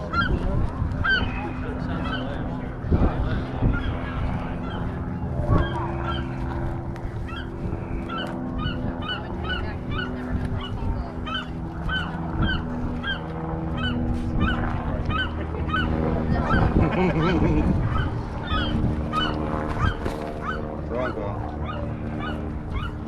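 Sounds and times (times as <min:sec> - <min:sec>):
seagull harsh distress calls: 0:01.0 - 0:02.4, 0:03.4 - 0:06.4, 0:07.2 - 0:23.0.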